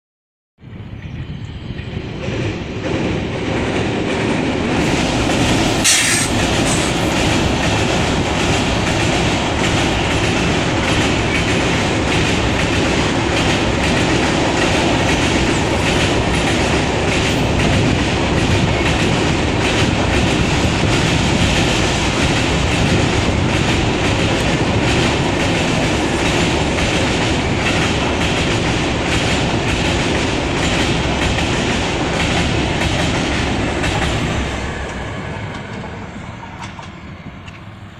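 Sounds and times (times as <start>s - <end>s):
train wheels clattering on rails: 0.7s - 37.9s.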